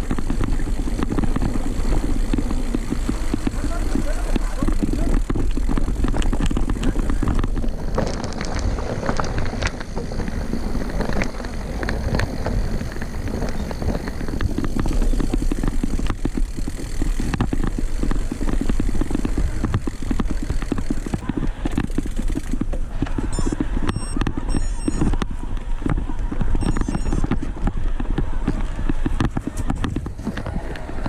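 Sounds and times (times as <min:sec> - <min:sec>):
bike rattles and knocks: 0:00.0 - 0:31.0
low rumble of bike riding: 0:00.0 - 0:31.0.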